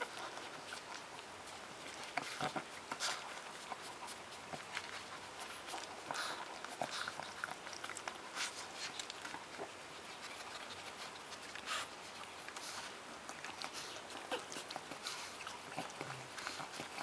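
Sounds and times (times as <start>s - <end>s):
puppies nursing smacking clicks: 0.0s - 17.0s.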